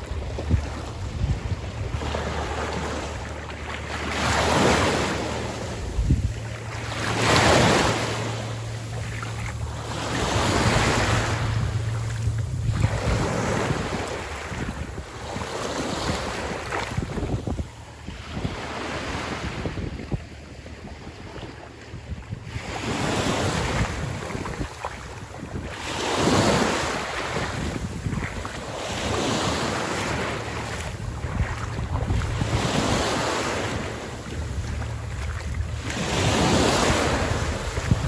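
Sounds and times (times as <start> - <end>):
waves washing up a beach: 0.0 - 38.0
wind rumbling on microphone: 0.0 - 38.0.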